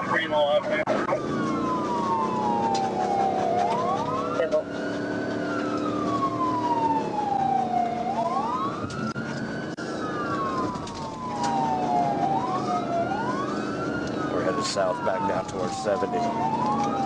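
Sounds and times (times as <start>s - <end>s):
engine and road noise: 0.0s - 17.0s
police siren wailing: 0.0s - 17.0s
second siren wail: 0.0s - 17.0s.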